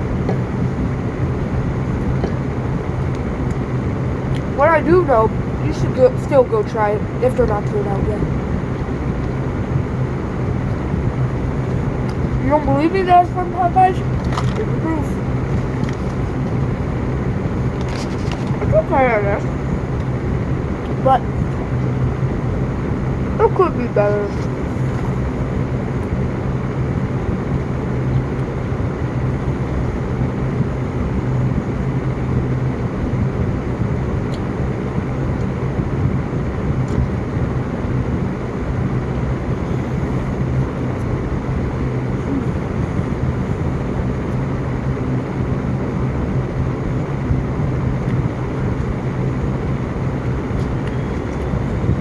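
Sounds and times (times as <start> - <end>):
car engine hum inside cabin: 0.0 - 52.0.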